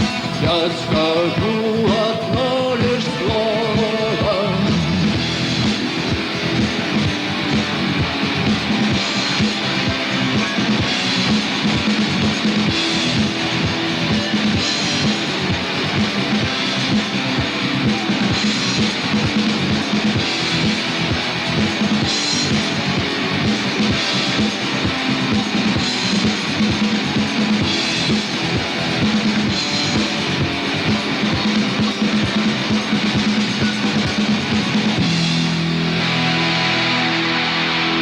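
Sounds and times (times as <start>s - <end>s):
drum kit beat: 0.0s - 38.0s
electric guitars: 0.0s - 38.0s.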